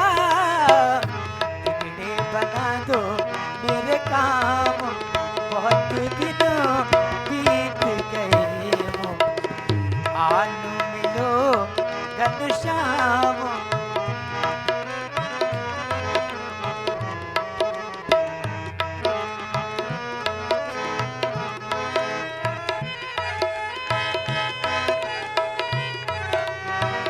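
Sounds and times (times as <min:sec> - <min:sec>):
sustained melodic accompaniment: 0:00.0 - 0:27.0
tabla rhythm: 0:00.0 - 0:27.0.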